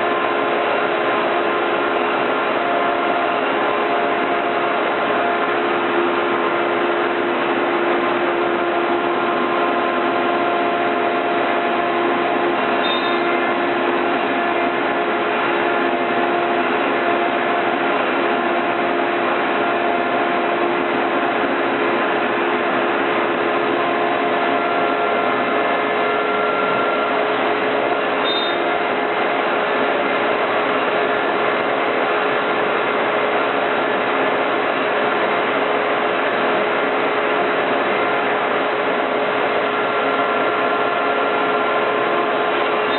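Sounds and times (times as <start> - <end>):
steady whining tones: 0.0 - 42.9.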